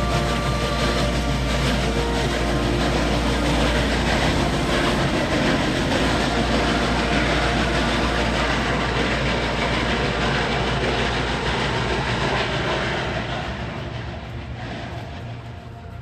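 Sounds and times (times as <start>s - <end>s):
train running on rails: 0.0s - 16.0s.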